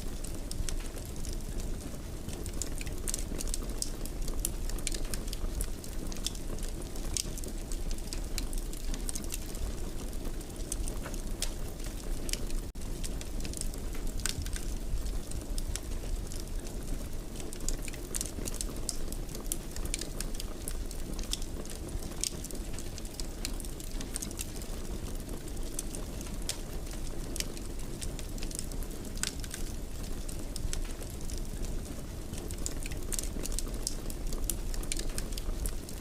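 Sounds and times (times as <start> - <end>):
fire burning in fireplace: 0.0 - 36.0.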